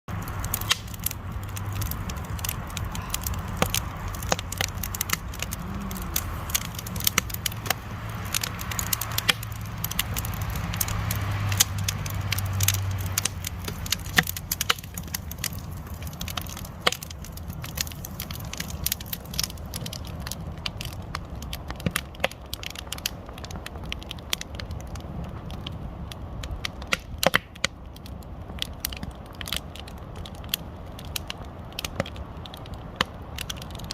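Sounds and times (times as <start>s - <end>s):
campfire crackling and popping: 0.1s - 33.9s
low steady rumble: 0.1s - 33.9s.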